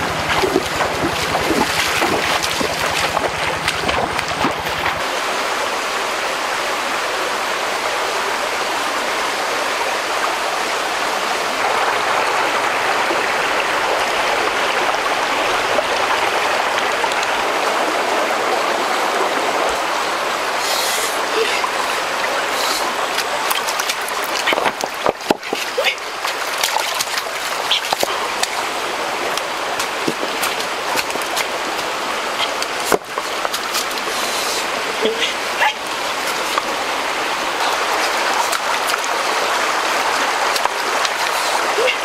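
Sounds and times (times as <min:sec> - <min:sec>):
stream flowing over stones: 0:00.0 - 0:42.0.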